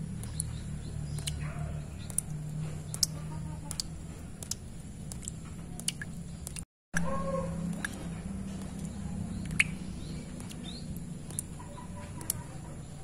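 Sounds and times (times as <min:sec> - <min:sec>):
water drops plinking into puddle: 0:00.0 - 0:08.0, 0:08.6 - 0:11.6.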